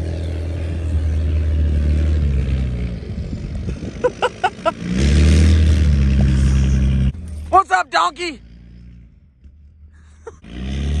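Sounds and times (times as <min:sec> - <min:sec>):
diesel bus engine rumbling: 0:00.0 - 0:11.0.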